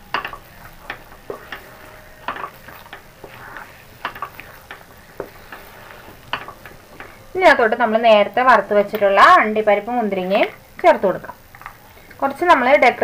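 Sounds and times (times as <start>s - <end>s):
wooden spatula stirring sticky mixture: 0.0s - 13.0s.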